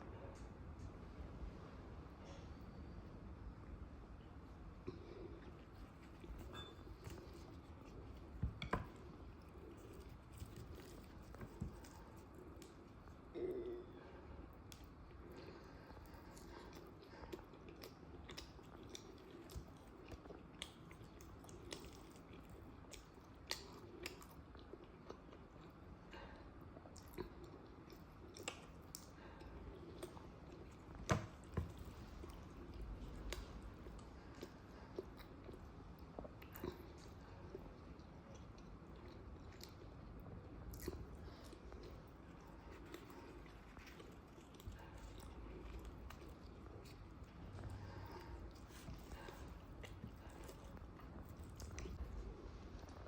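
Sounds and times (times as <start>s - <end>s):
person chewing: 4.9s - 25.8s, 26.8s - 53.0s.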